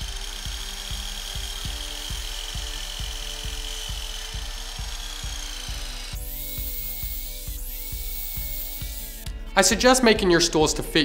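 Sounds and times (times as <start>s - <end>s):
miter saw whining: 0.0s - 9.4s
background music with beat: 0.0s - 11.0s.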